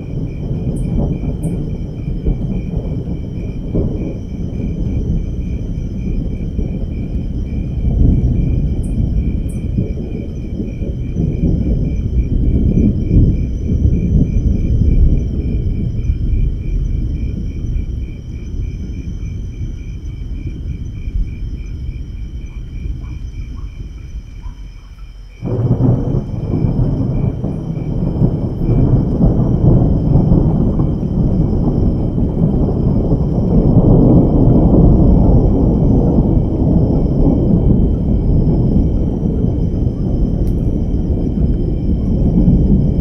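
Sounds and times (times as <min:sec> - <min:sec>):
loud thunderclap: 0:00.0 - 0:43.0
thunder rumbling: 0:00.0 - 0:43.0.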